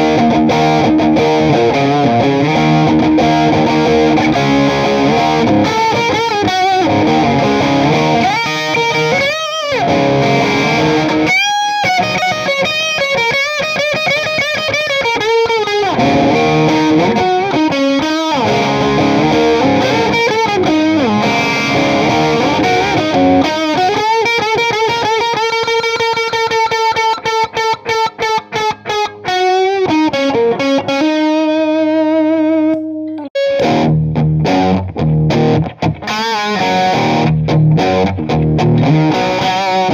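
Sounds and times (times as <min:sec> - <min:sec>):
distorted electric guitar lead: 0:00.0 - 0:39.9.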